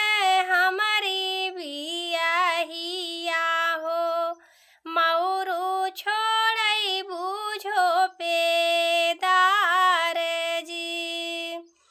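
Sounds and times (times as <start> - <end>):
woman singing folk song: 0.0 - 11.8.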